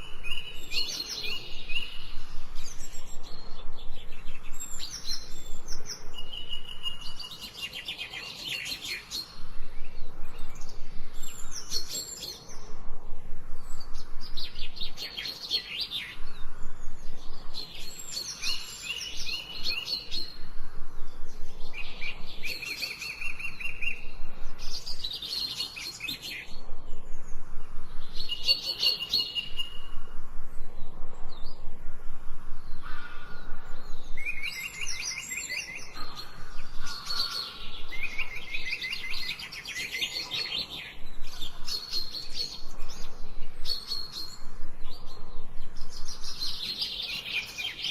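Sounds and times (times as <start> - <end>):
songbirds singing: 0.0 - 47.9.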